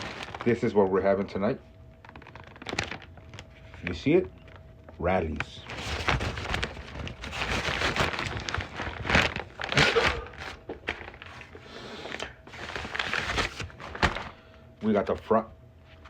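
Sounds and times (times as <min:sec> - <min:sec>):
paper bag rustling and crinkling: 0:00.0 - 0:01.3, 0:02.0 - 0:14.4.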